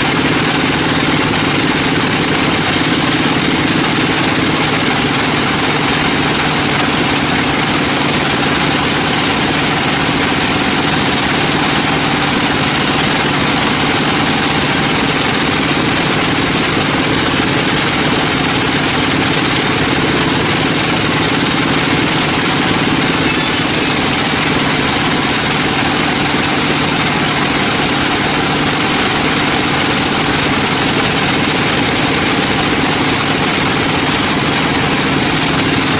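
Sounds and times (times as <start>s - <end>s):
sawmill engine drone: 0.0s - 35.9s.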